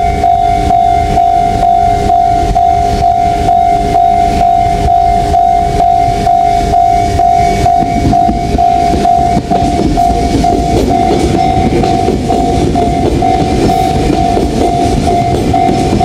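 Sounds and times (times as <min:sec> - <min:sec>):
level crossing warning bell: 0:00.0 - 0:16.0
train rumbling: 0:00.0 - 0:16.0.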